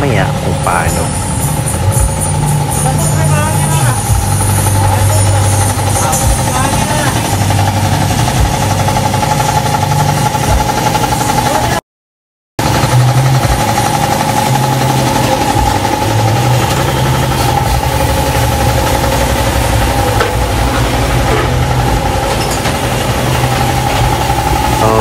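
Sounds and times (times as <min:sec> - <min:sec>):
air compressor running: 0:00.0 - 0:11.8, 0:12.6 - 0:25.0.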